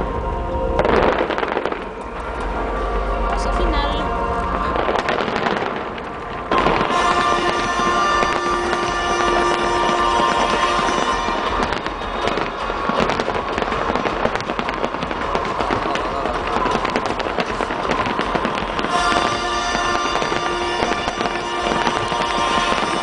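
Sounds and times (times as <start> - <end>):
fireworks crackling and popping: 0.0 - 23.0
music soundtrack: 0.0 - 23.0.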